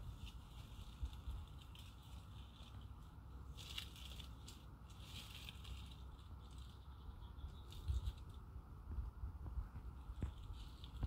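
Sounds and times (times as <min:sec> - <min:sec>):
faint rustling and crunching: 0:00.0 - 0:11.0.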